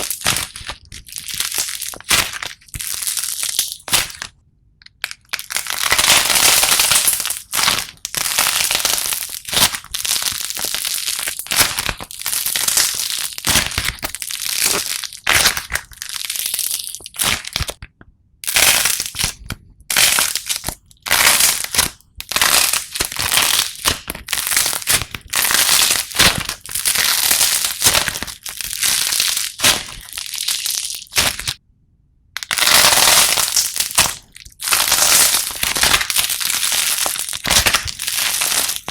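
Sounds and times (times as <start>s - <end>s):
slime crackling and crunching: 0.0s - 4.3s, 4.9s - 17.8s, 18.4s - 31.6s, 32.4s - 38.9s.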